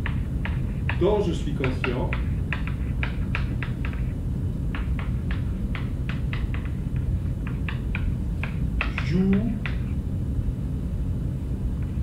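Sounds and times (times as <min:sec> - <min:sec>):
chalk tapping on blackboard: 0:00.0 - 0:10.0
steady low rumble: 0:00.0 - 0:12.0.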